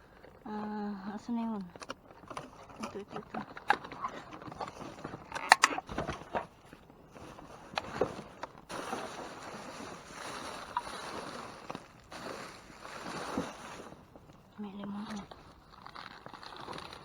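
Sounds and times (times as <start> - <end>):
plastic crinkling: 0.0 - 17.0.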